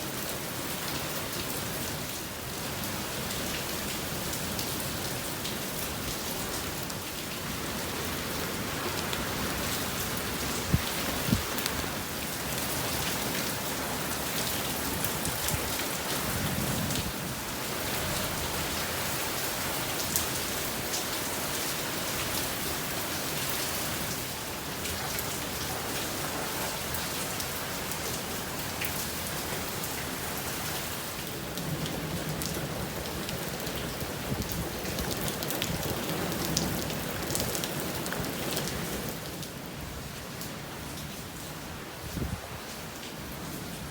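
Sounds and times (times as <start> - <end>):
steady rain splashing: 0.0 - 43.9.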